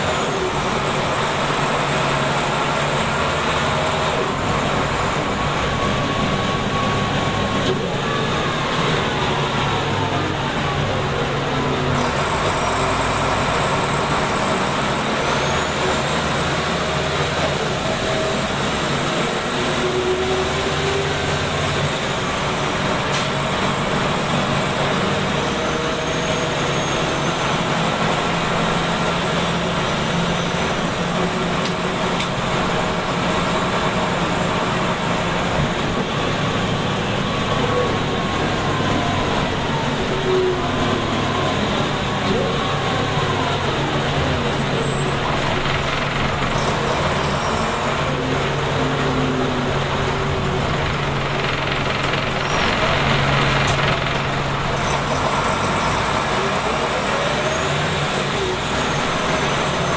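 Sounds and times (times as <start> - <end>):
diesel bus engine running: 0.0 - 59.9
road noise: 0.0 - 59.9.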